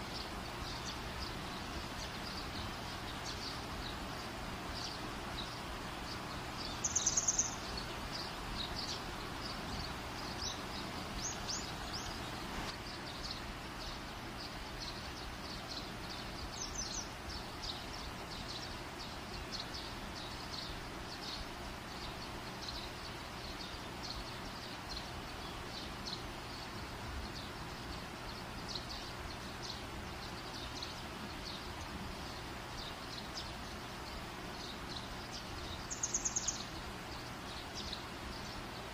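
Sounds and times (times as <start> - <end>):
small bird chirping: 0.0 - 38.9.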